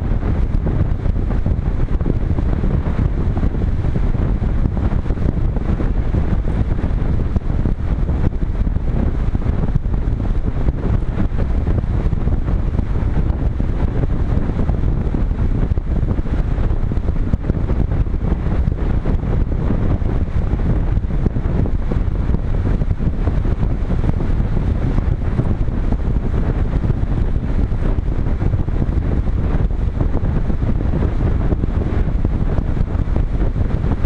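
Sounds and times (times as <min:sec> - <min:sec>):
wind rumbling on microphone: 0:00.0 - 0:34.0.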